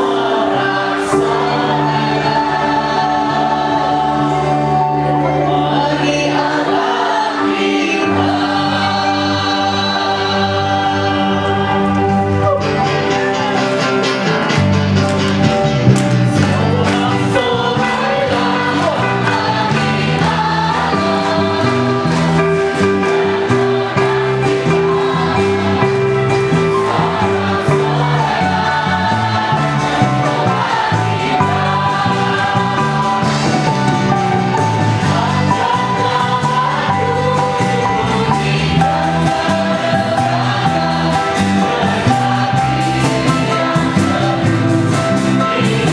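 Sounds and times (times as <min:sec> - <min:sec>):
band accompaniment: 0:00.0 - 0:45.9
group singing praise song: 0:00.0 - 0:45.9.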